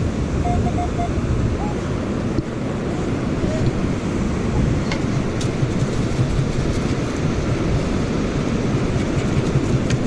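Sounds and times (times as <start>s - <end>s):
ocean surf: 0.0s - 10.0s
wind buffeting microphone: 0.0s - 10.0s.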